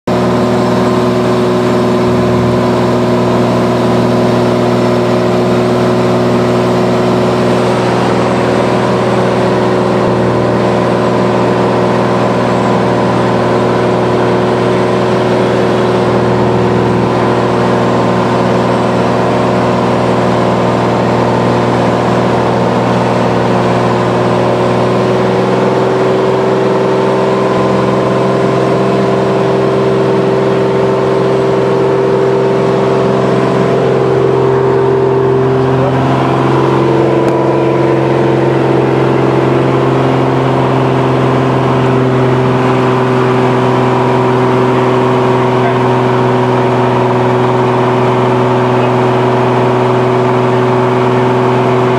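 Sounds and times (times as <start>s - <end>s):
propeller aircraft engine droning: 0.1s - 51.9s.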